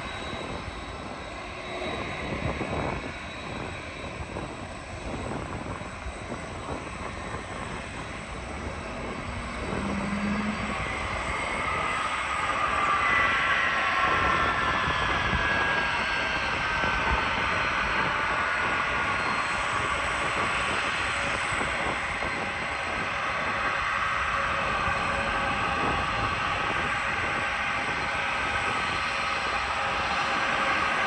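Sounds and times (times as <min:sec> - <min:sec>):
jet engine whine sliding down: 0:00.0 - 0:31.0
jet engines rushing: 0:00.0 - 0:31.0.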